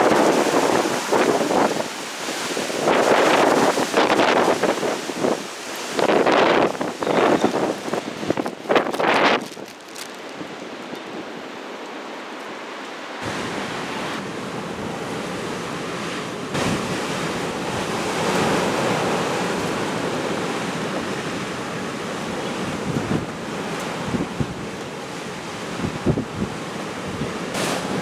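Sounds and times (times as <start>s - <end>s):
storm wind gusting: 0.0s - 11.7s, 13.1s - 28.0s.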